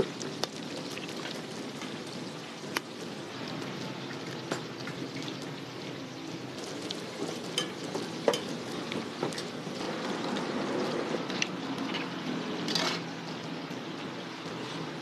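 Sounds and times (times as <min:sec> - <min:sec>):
eggs sizzling in oil: 0:00.0 - 0:12.6.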